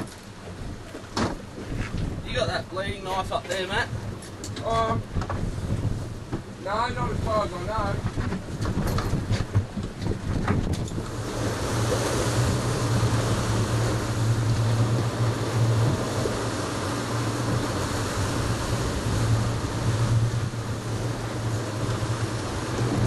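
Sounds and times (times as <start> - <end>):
boat engine humming: 0.0 - 23.0
wind and sea noise: 0.0 - 23.0.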